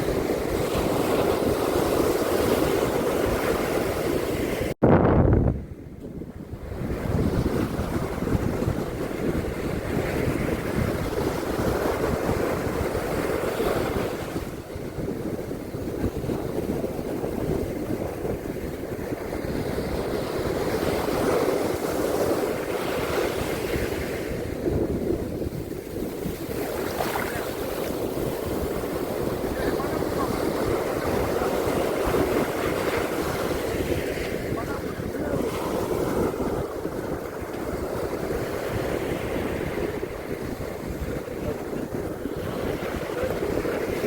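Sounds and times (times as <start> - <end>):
waves breaking on beach: 0.0 - 4.8, 6.4 - 44.0
wind rumbling on microphone: 0.0 - 44.0.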